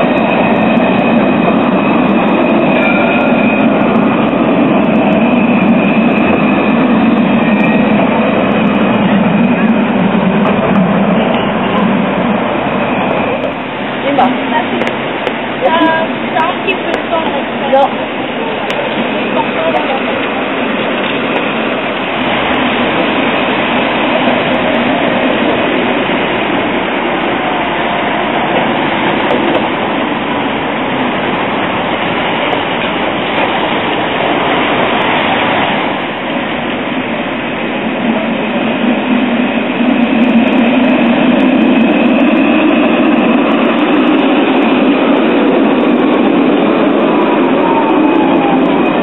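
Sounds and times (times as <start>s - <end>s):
tram passing: 0.0s - 49.0s
tram wheels rumbling on rail: 0.0s - 49.0s.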